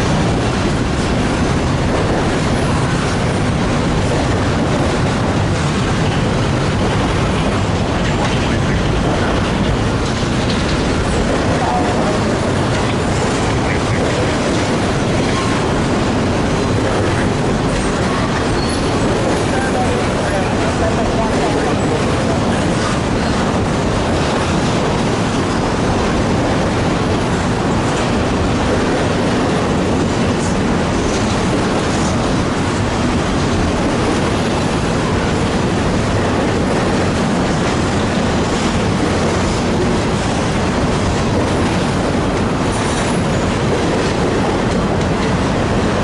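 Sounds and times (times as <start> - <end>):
freight train cars rolling past: 0.0 - 46.0.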